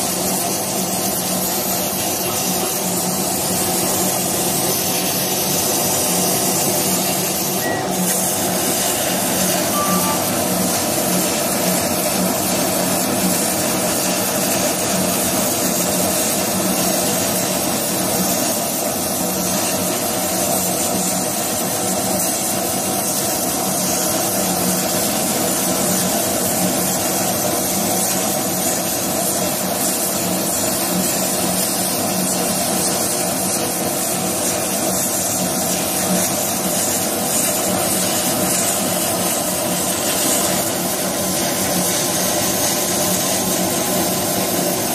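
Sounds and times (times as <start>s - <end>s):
laser cutter air rushing and hum: 0.0s - 44.9s.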